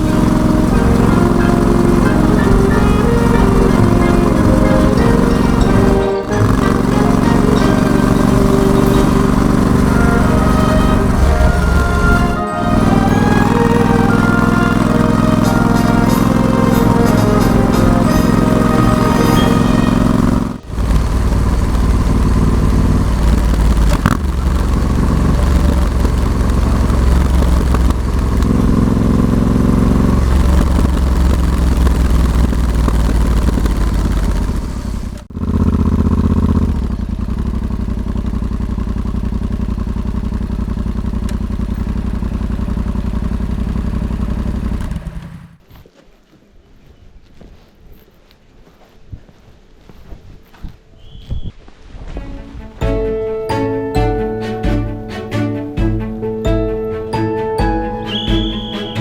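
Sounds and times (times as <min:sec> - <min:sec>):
motorcycle engine revving: 0:00.0 - 0:45.6, 0:52.2 - 0:59.0.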